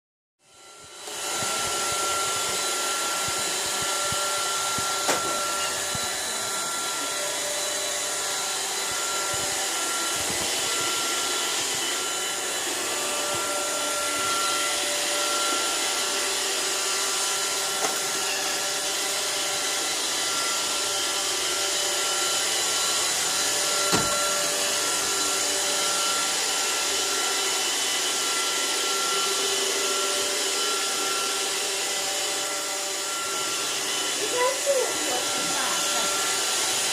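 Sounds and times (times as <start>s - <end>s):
robot vacuum whirring: 0.5s - 36.9s.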